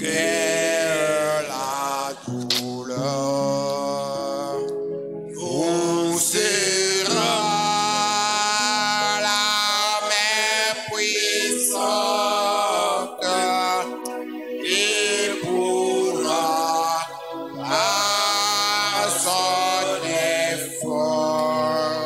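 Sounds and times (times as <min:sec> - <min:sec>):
voices singing a slow hymn: 0:00.0 - 0:22.0.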